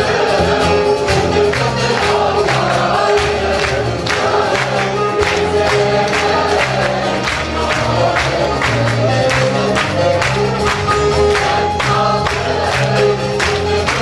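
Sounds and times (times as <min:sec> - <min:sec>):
choir singing in unison: 0:00.0 - 0:14.0
instrumental accompaniment: 0:00.0 - 0:14.0
percussion beat: 0:00.0 - 0:14.0.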